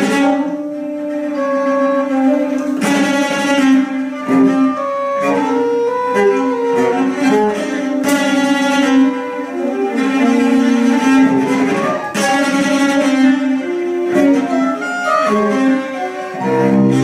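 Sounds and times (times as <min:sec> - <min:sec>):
bowed cello notes: 0:00.0 - 0:17.0.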